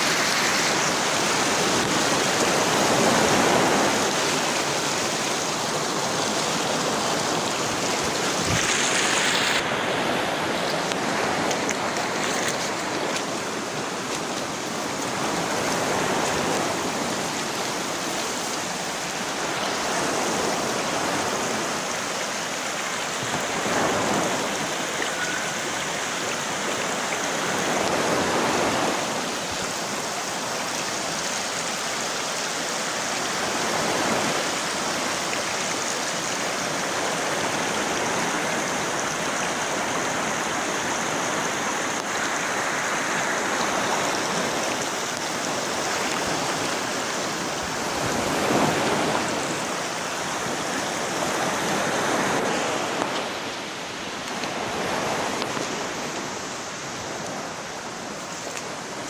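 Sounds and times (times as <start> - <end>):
water rushing over a waterfall: 0.0 - 59.0.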